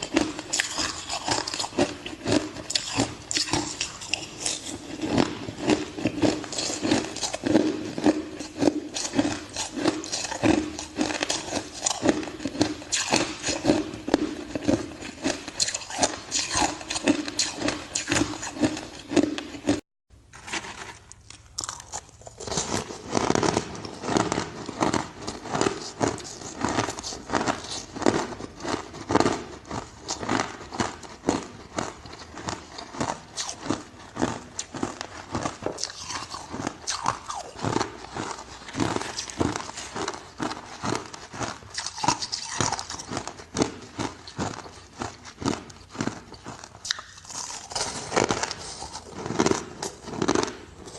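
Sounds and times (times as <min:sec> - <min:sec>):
ice crunching being chewed: 0:00.0 - 0:19.8, 0:21.1 - 0:50.9.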